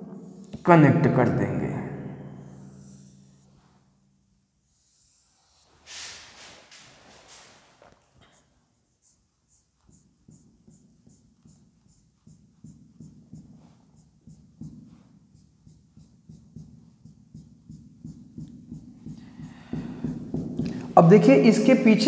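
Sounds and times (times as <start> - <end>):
marker scratching on whiteboard: 0.2 - 0.8, 2.5 - 3.8, 4.7 - 21.0.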